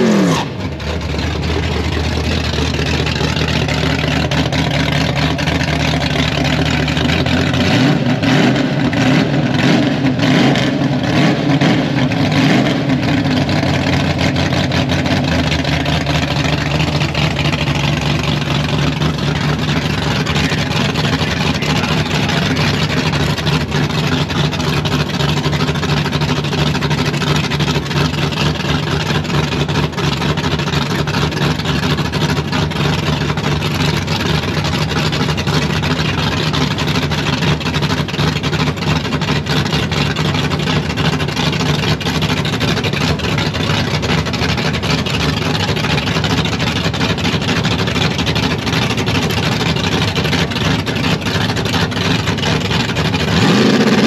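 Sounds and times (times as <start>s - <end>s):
drag car engine idling loudly: 0.0s - 54.0s.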